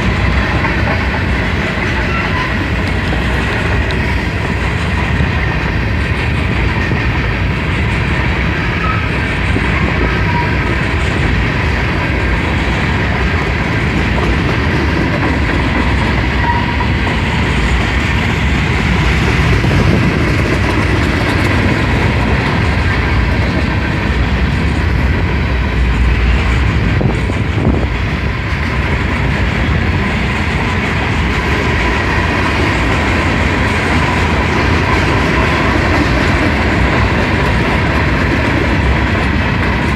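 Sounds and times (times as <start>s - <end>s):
freight train cars rumbling past: 0.0s - 39.9s.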